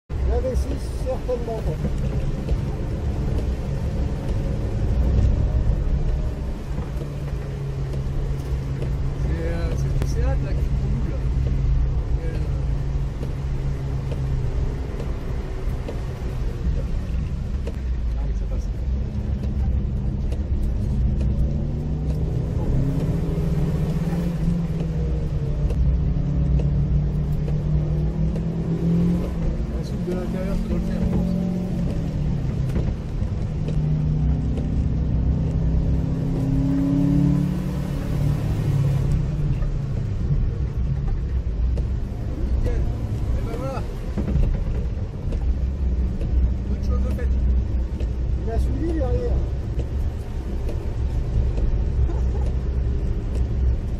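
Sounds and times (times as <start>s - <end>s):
car engine rumble: 0.1s - 53.9s
rain noise: 0.1s - 53.9s
wet road noise: 0.1s - 53.9s.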